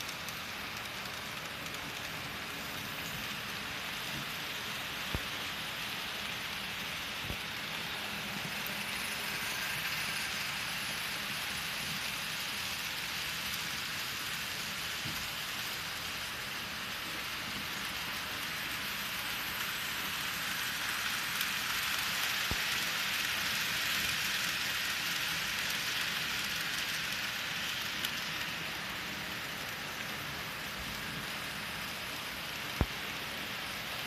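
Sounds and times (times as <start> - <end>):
model train wheels hissing on rail: 0.0 - 34.0.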